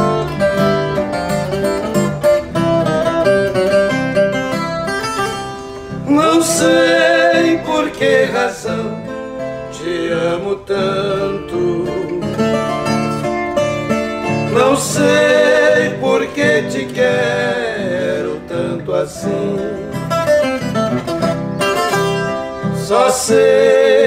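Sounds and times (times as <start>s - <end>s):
classical guitar playing: 0.0s - 24.0s.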